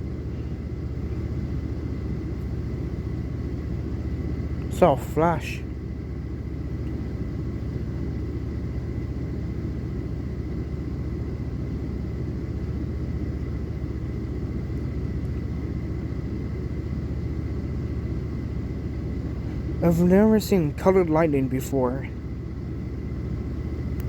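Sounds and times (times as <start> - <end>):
faint high whine: 0.0 - 24.0
low hum: 0.0 - 24.0.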